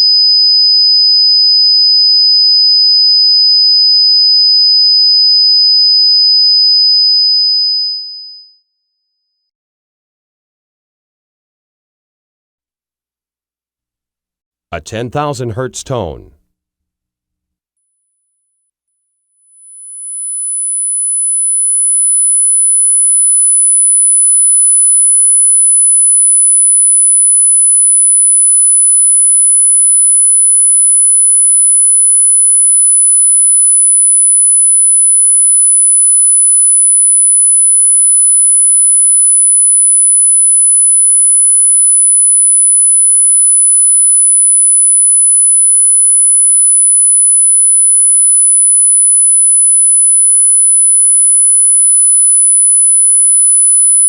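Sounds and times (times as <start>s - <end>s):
high-pitched sine test tone: 0.0s - 8.7s, 19.2s - 54.0s.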